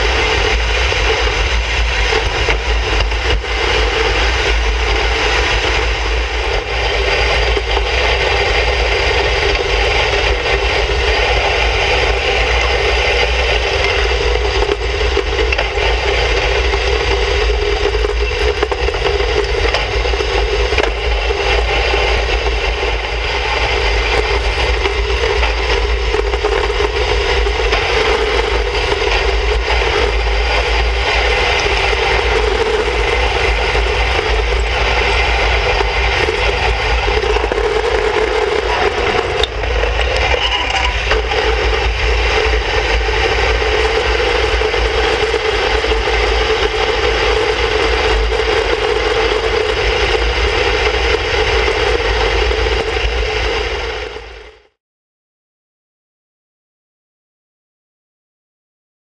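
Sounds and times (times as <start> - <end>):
wind buffeting microphone: 0.0 - 54.6.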